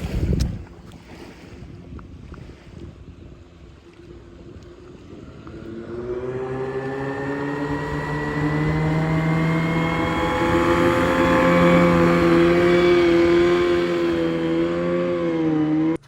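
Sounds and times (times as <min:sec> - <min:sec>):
boat motor running at speed: 0:00.0 - 0:16.0.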